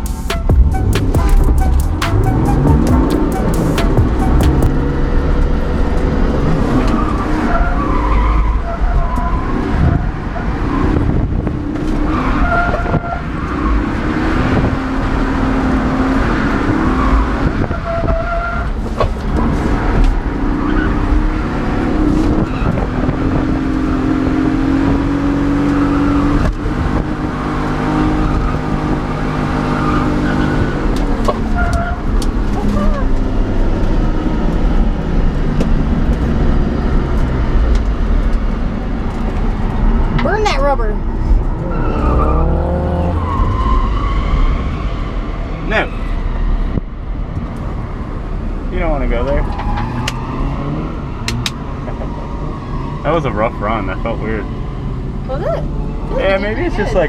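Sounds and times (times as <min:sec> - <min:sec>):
car engine revving hard: 0:00.0 - 0:46.7, 0:47.9 - 0:57.0
tyres skidding and squealing: 0:00.0 - 0:57.0.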